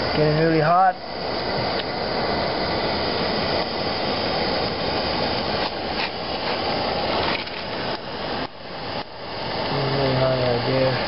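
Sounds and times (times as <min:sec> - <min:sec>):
gas torch flame rushing: 0:00.0 - 0:11.0.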